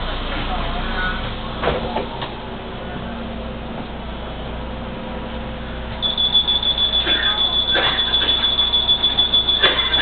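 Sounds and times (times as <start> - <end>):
bus engine idling: 0.0 - 10.0.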